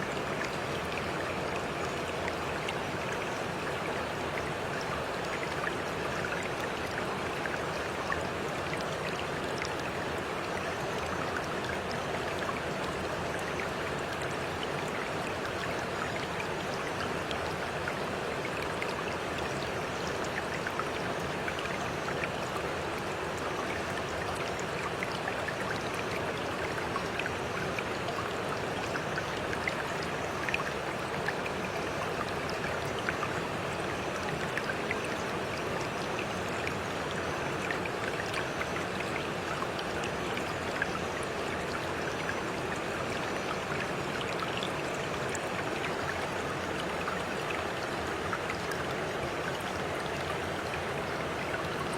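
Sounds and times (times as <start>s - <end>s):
stream babbling: 0.0s - 51.9s
water drips and splashes: 0.0s - 51.9s.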